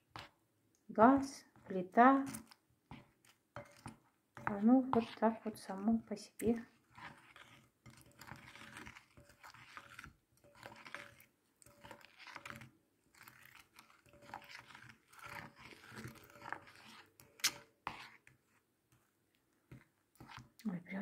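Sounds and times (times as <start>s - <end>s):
spoon scraping paste in glass bowl: 0.1s - 0.4s, 1.0s - 20.8s.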